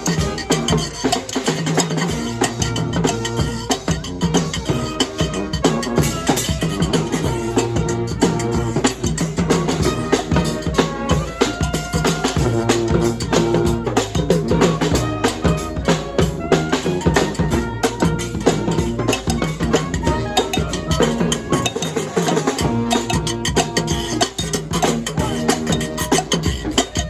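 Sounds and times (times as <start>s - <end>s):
steady drum beat: 0.0s - 27.0s
sustained horn notes: 0.0s - 27.0s.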